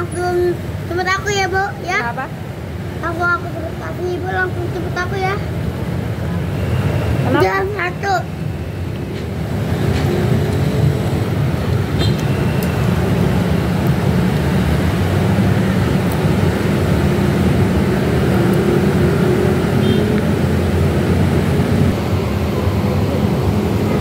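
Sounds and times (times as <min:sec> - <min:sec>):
road traffic rumble: 0:00.0 - 0:24.0
engine hum: 0:02.7 - 0:24.0.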